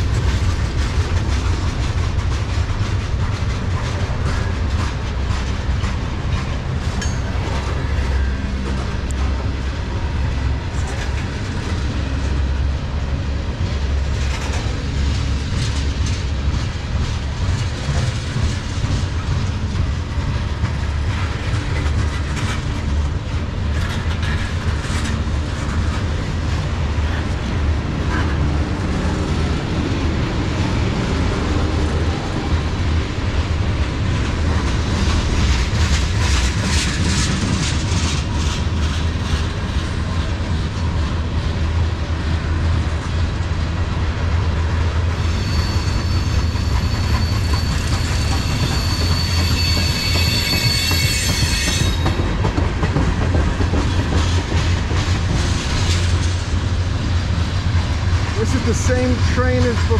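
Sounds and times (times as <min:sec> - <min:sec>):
steel wheels rumbling on rail: 0:00.0 - 0:59.9
wheels clicking over rail joints: 0:00.0 - 0:59.9.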